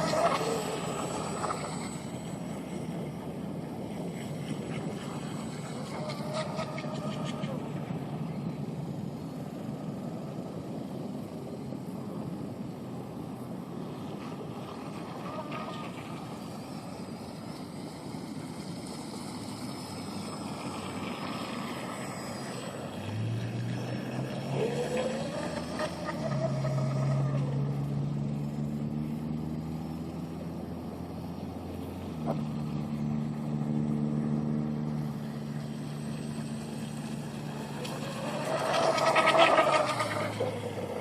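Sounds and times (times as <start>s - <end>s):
electric boat motor whine: 0.0s - 41.0s
low engine hum: 0.0s - 41.0s.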